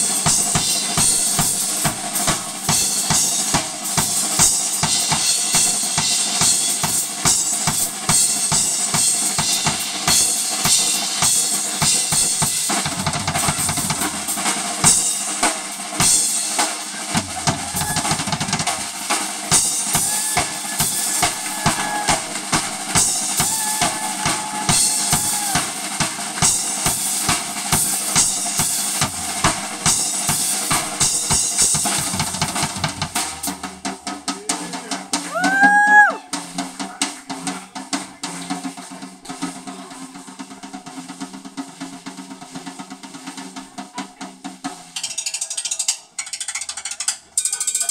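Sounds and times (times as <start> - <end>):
drum kit solo: 0.0 - 45.2.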